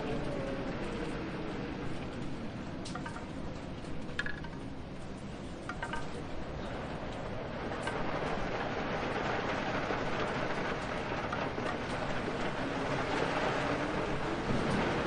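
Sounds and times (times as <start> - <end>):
raindrops ticking: 0.0 - 15.0
steady rain: 0.0 - 15.0
wind: 0.0 - 15.0.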